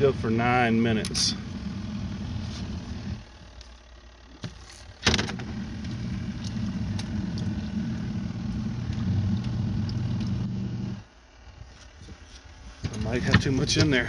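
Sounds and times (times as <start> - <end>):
washing machine motor clunk: 0.0 - 3.5, 4.4 - 11.0, 12.8 - 14.0
washing machine humming: 0.0 - 12.1, 12.7 - 14.0.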